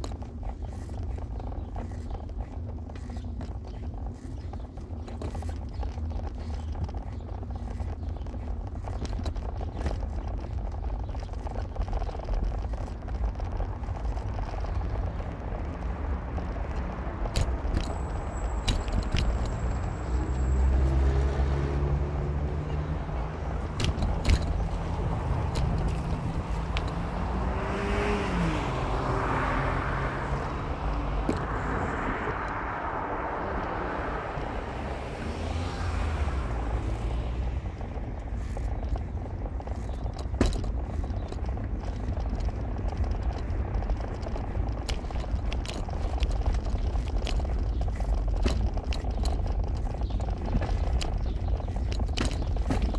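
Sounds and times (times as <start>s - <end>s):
car engine running: 0.0s - 52.9s
tyre road noise: 0.0s - 52.9s.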